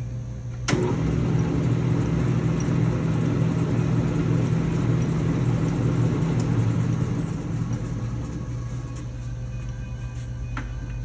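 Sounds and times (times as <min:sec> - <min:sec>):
lathe humming and whirring: 0:00.0 - 0:11.0.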